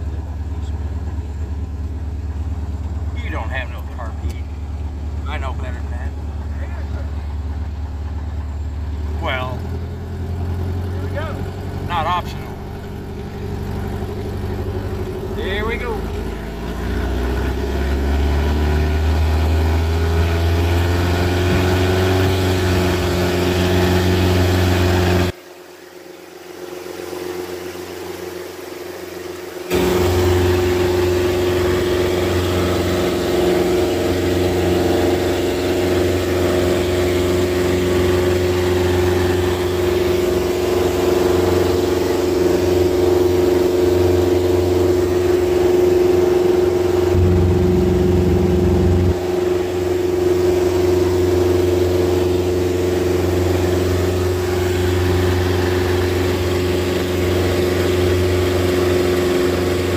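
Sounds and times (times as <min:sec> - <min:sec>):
aircraft engine drone: 0:00.0 - 0:59.9.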